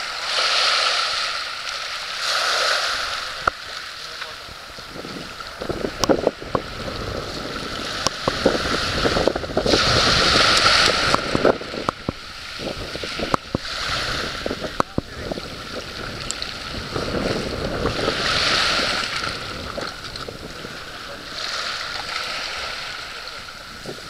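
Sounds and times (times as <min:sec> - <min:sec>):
sea waves washing on shore: 0:00.0 - 0:24.0
wind rumble on microphone: 0:02.8 - 0:24.0.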